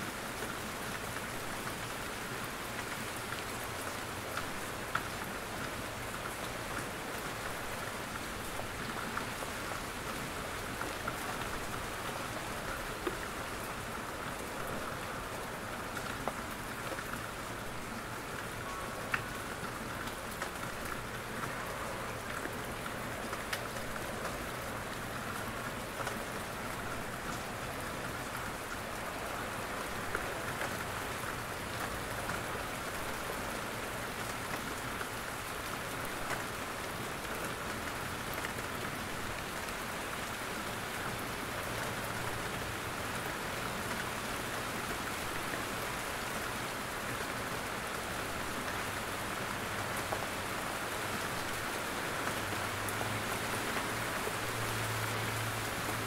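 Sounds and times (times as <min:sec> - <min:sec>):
rain pattering on forest: 0:00.0 - 0:56.0.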